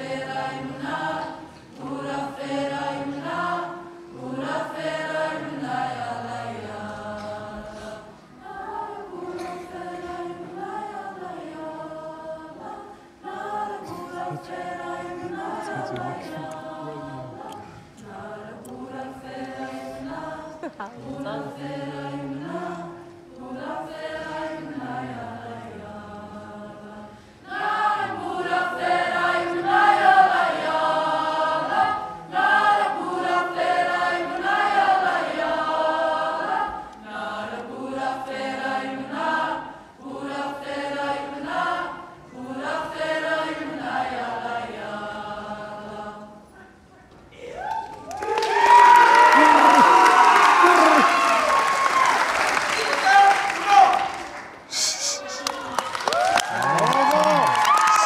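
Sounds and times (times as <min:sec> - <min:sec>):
choir singing a cappella: 0:00.0 - 0:47.2.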